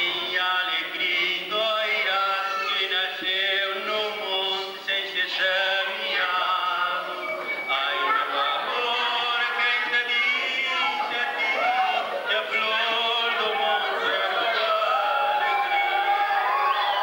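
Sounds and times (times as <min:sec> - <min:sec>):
man singing: 0:00.0 - 0:16.4.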